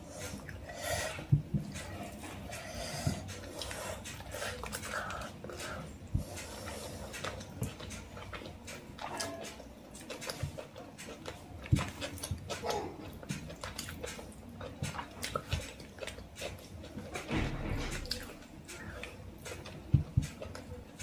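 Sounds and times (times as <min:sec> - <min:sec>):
wet chewing and lip smacks: 0:00.1 - 0:21.0
fingers squishing food on a plate: 0:00.2 - 0:17.3.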